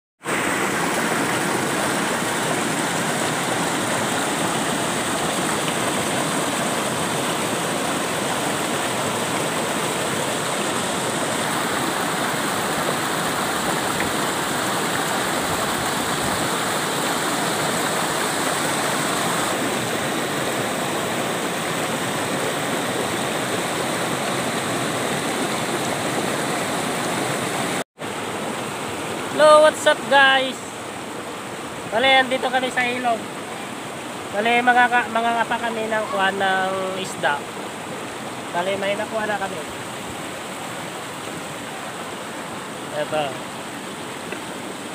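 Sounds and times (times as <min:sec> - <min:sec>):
water rushing over rocks: 0:00.2 - 0:44.9.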